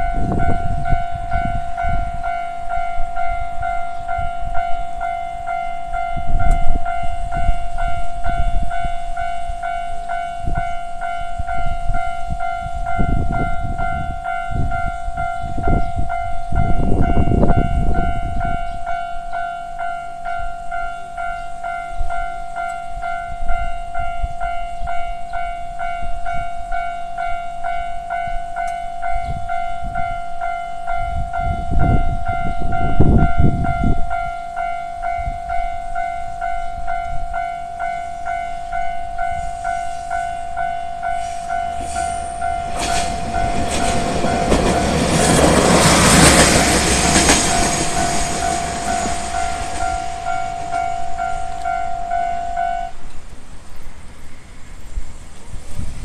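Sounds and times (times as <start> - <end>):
level-crossing warning bell: 0.0 - 53.3
train passing: 0.0 - 56.0.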